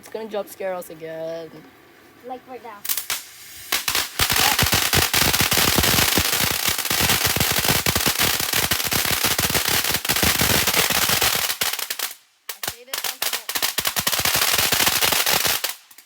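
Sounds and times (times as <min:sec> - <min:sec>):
firecrackers crackling bangs: 0:02.8 - 0:16.0.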